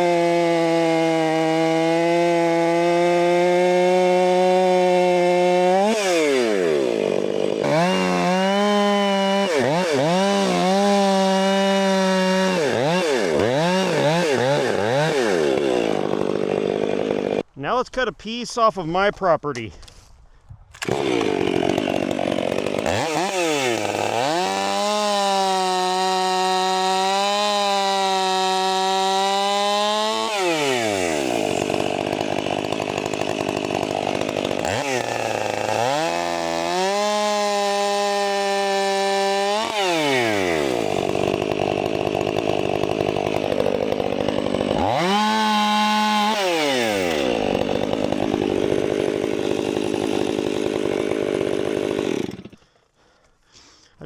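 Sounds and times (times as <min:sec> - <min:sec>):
chainsaw cutting through log: 0:00.0 - 0:17.6, 0:20.7 - 0:53.8.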